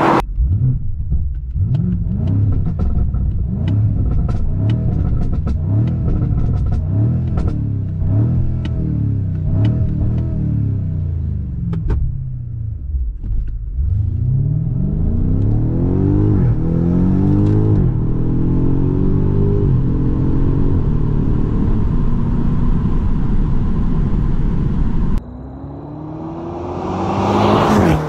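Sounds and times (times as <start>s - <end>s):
car engine revving and upshifting: 0.0s - 0.7s, 1.5s - 11.9s, 13.8s - 28.0s.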